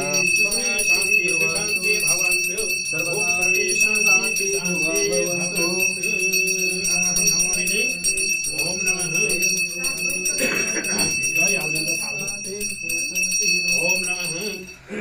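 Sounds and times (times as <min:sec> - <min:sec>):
group of voices singing hymn: 0:00.0 - 0:13.1
hand bell ringing: 0:00.0 - 0:14.8.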